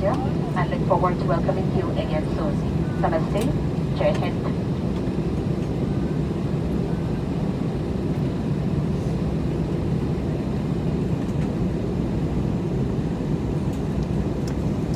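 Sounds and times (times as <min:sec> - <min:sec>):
airliner cabin rumble: 0:00.0 - 0:14.9.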